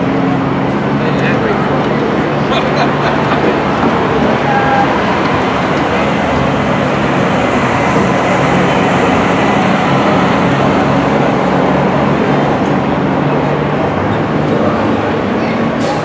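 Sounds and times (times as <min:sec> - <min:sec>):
stock car engines droning: 0:00.0 - 0:16.0.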